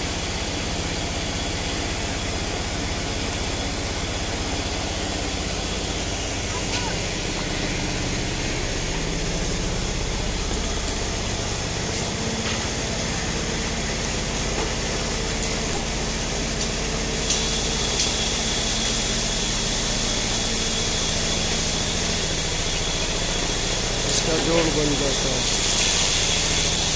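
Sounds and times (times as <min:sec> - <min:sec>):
machine drone: 0:00.0 - 0:26.9.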